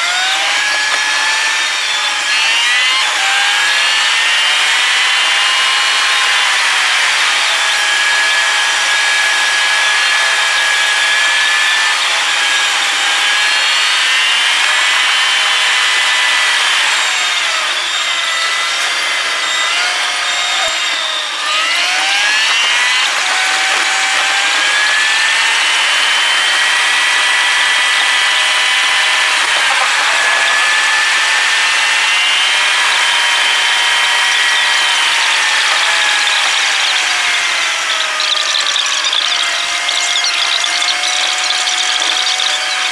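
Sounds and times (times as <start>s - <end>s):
car engine and drivetrain whining: 0.0s - 42.9s.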